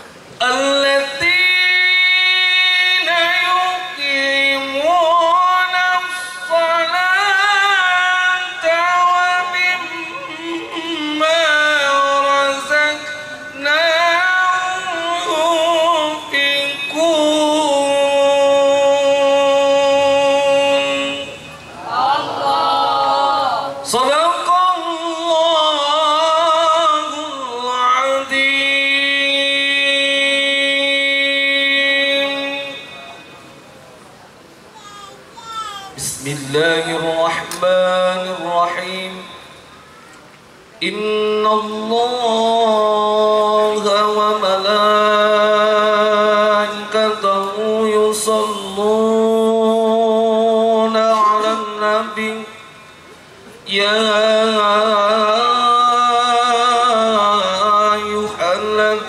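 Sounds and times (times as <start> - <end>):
man chanting into a microphone: 0.0 - 33.6, 36.0 - 40.1, 40.7 - 59.0.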